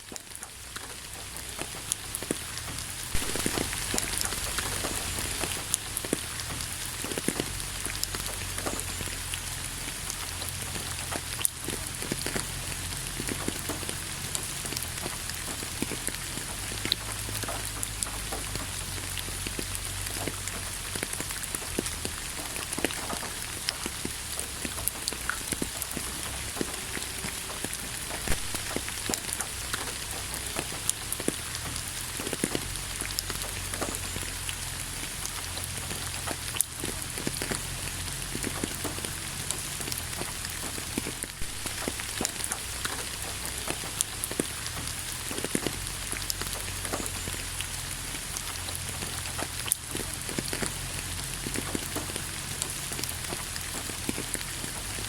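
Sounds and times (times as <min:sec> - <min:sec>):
low steady rumble: 0:00.0 - 0:55.0
raindrops pattering on a surface: 0:00.0 - 0:55.0
steady rain hiss: 0:00.0 - 0:55.0.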